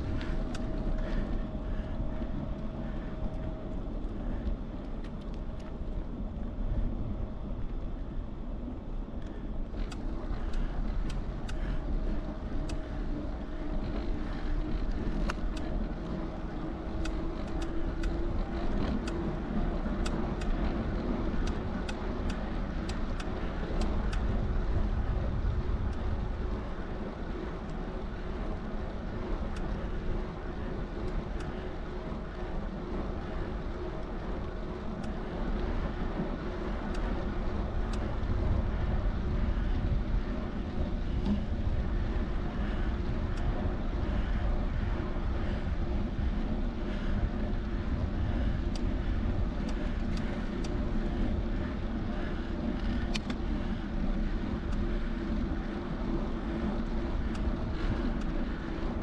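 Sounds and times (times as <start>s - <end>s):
bicycle rolling rumble: 0.0s - 59.0s
faint steady hum: 0.0s - 59.0s
wind buffeting microphone: 0.0s - 59.0s.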